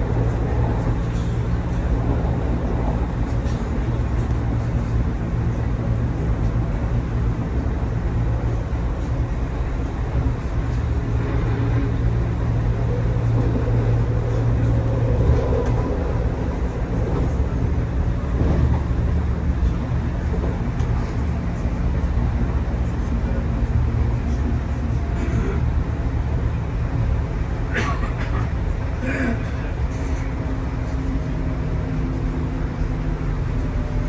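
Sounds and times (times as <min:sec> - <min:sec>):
low traction hum: 0:00.0 - 0:34.0
wheels rumbling on rails: 0:00.0 - 0:34.0.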